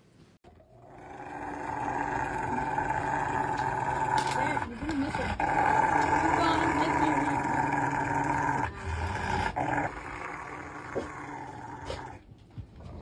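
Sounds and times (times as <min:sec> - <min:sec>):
dog growling: 0:00.6 - 0:12.2.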